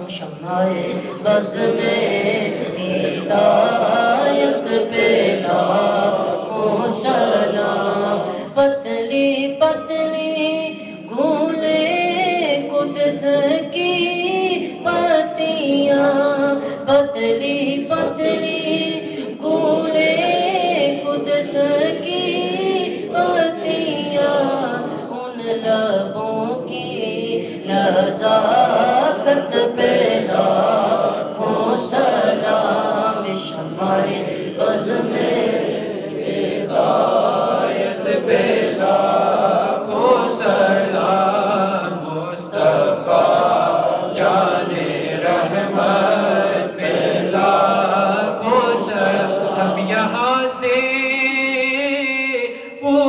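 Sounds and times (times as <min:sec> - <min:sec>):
group singing unaccompanied: 0:00.0 - 0:53.0.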